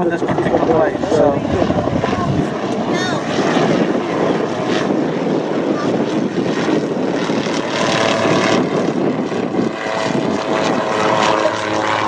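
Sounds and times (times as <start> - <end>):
propeller engine running: 0.0 - 12.0.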